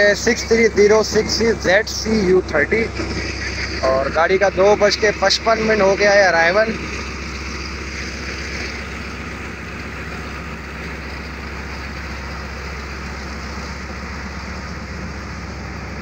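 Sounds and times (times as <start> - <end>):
locomotive engine idling: 0.0 - 16.0.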